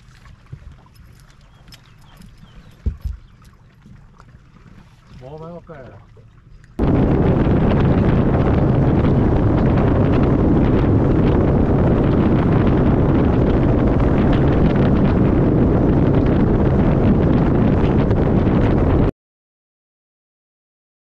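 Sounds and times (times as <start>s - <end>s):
boat motor running: 0.0s - 19.1s
wind buffeting microphone: 0.0s - 19.1s.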